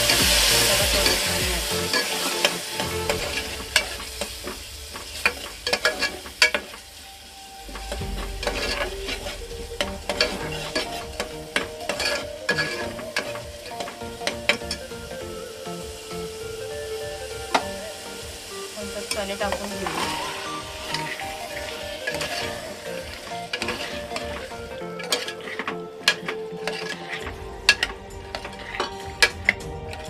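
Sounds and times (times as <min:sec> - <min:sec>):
masala sizzling in oil: 0:00.0 - 0:30.0.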